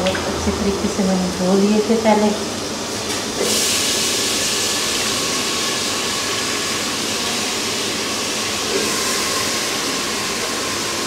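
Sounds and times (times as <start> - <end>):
food sizzling in hot oil: 1.5 - 11.0.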